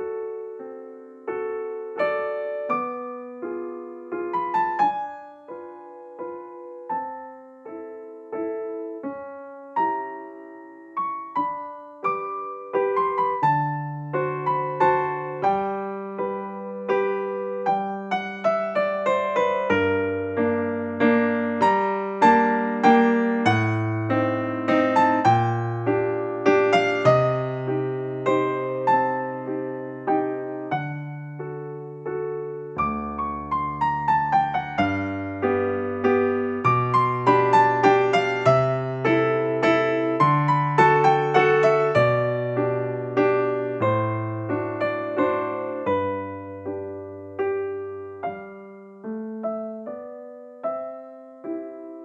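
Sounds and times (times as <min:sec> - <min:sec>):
gentle piano music: 0:00.0 - 0:52.0.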